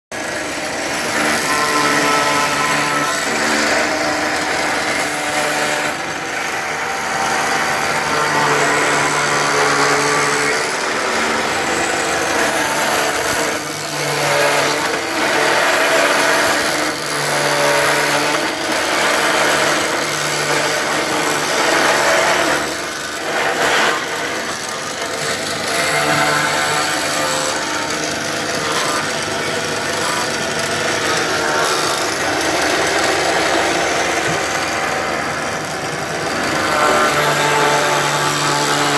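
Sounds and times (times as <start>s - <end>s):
router cutter rasping wood: 0.1s - 38.9s
router motor hum: 0.2s - 38.9s.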